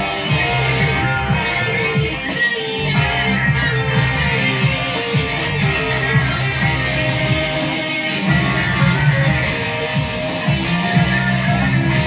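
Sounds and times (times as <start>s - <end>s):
electric guitar: 0.0s - 12.0s
live band playing: 0.0s - 12.0s.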